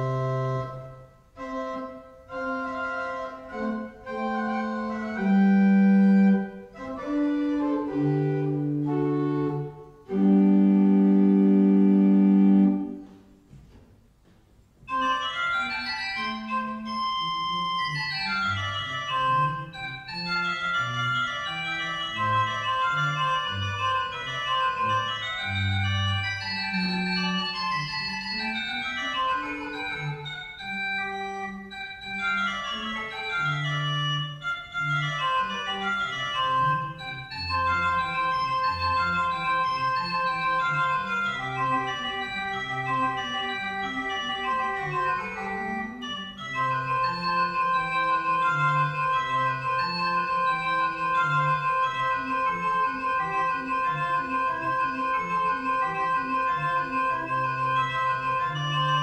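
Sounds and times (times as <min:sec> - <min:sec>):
organ playing: 0:00.0 - 0:13.3, 0:14.8 - 0:59.0.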